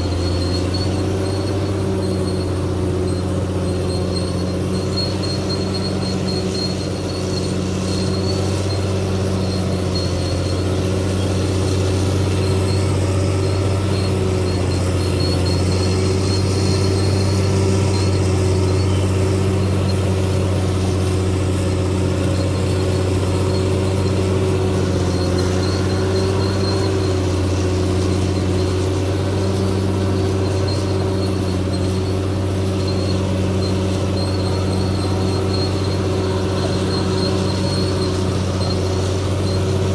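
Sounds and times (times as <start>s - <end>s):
bulldozer diesel engine running: 0.0s - 39.9s
faint high-pitched squeal: 0.0s - 39.9s.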